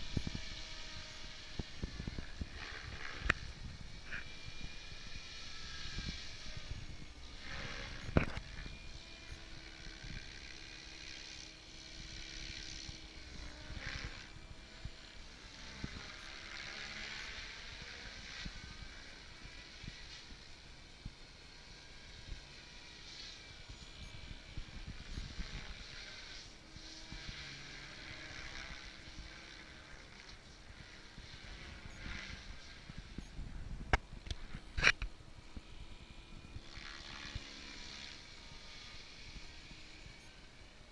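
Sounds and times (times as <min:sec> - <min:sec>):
wind rumble on microphone: 0:00.0 - 0:10.7, 0:11.8 - 0:22.9, 0:23.6 - 0:37.9
rc helicopter motor whine: 0:00.0 - 0:40.9.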